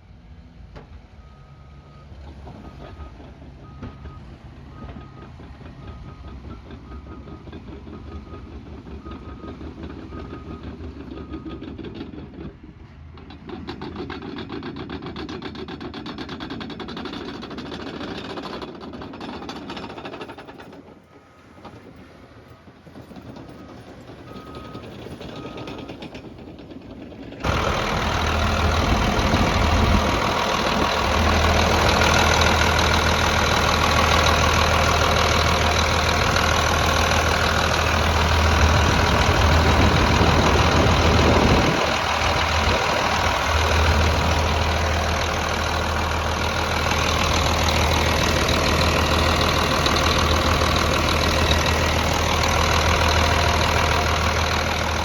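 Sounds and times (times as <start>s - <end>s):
bulldozer diesel engine drone: 0.0s - 55.0s.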